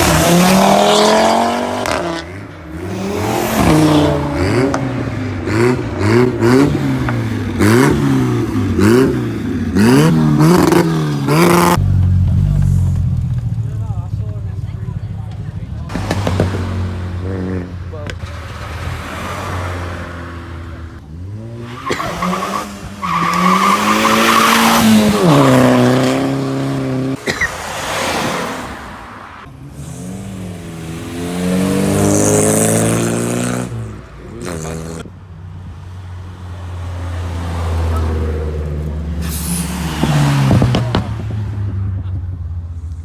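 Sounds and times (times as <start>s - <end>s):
cars accelerating hard: 0.0s - 13.0s, 15.8s - 35.1s, 35.9s - 42.4s.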